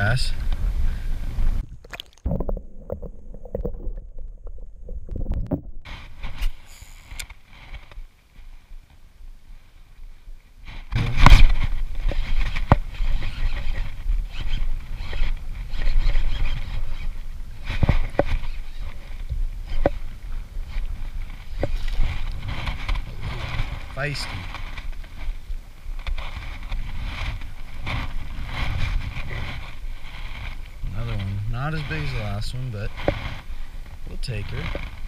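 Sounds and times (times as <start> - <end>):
wind rumble on microphone: 0.0 - 6.6, 10.1 - 35.0.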